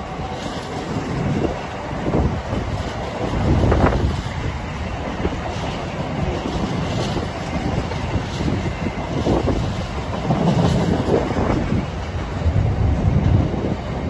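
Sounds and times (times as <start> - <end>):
freight wagons rumbling on rails: 0.0 - 14.0.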